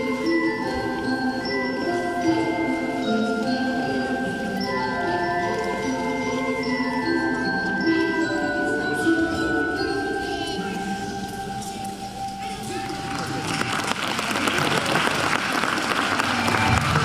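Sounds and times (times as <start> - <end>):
mallet percussion music: 0.0 - 17.0.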